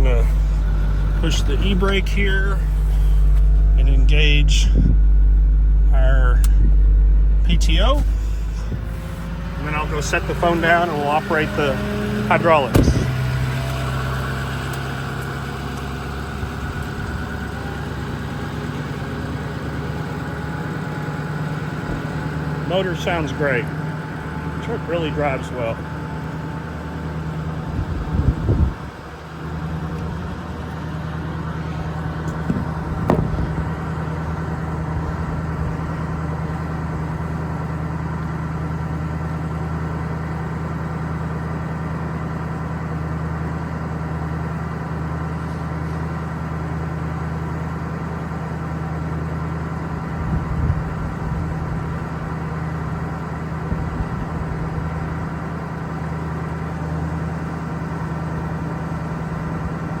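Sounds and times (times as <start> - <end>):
diesel truck engine idling: 0.0 - 60.0.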